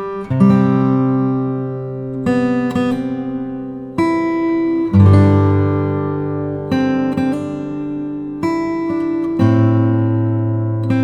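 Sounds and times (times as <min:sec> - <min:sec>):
acoustic guitar slow chords: 0:00.0 - 0:11.0.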